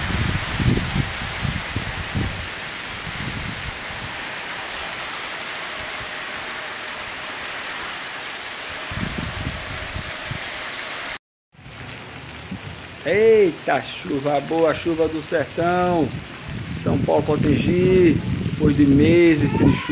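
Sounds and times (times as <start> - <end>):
heavy rain on tiled roof: 0.0 - 19.9.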